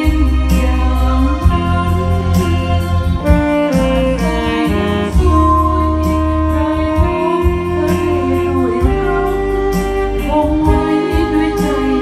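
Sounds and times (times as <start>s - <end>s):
bass line: 0.0s - 12.0s
jazz backing band: 0.0s - 12.0s
saxophone melody: 0.0s - 12.0s.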